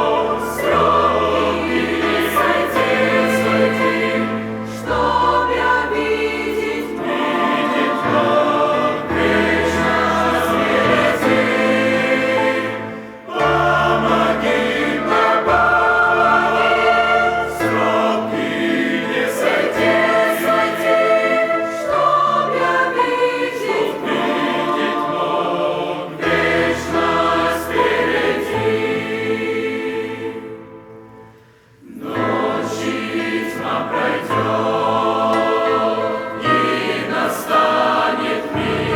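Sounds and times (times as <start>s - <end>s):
church choir singing a hymn: 0.0s - 38.9s.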